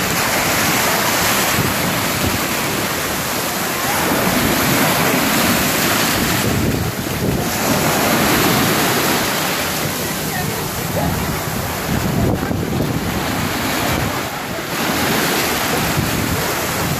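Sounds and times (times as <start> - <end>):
small waves breaking on sand: 0.0 - 16.9
wind on microphone: 0.0 - 16.9.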